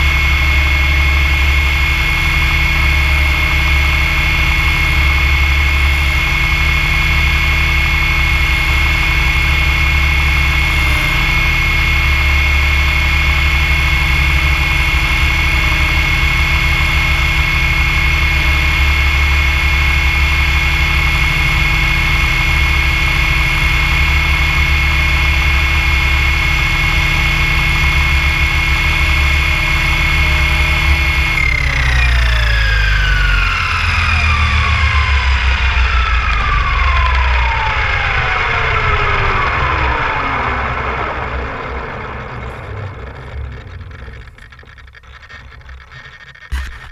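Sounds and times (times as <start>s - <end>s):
helicopter rotor noise: 0.0s - 46.9s
rc helicopter motor whine: 0.0s - 46.9s.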